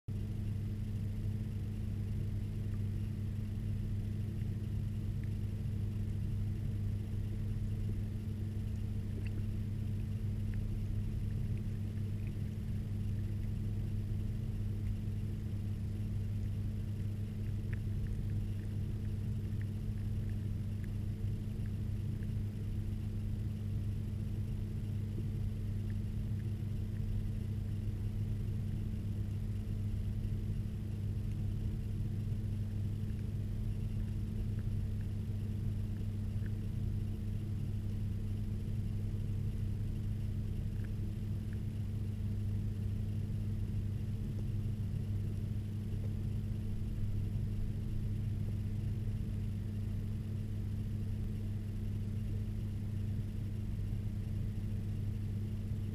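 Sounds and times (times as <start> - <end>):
steady low underwater hum: 0.1 - 55.9.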